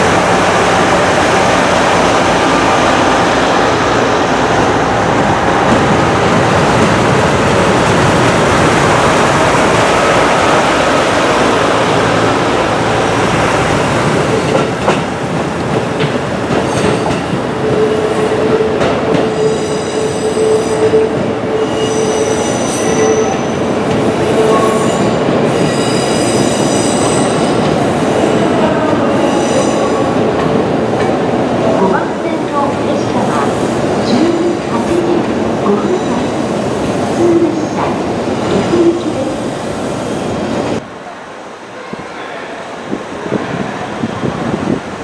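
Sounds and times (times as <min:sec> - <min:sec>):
train rumbling on rails: 0:00.0 - 0:45.0.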